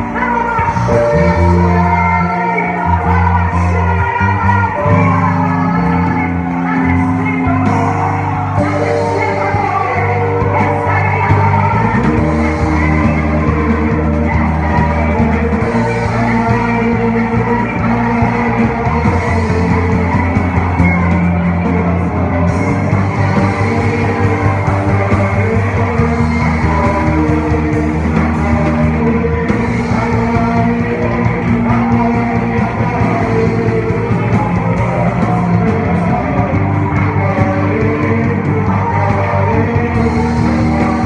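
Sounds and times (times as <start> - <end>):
person singing: 0.0 - 41.0
rock band playing chords: 0.0 - 41.0.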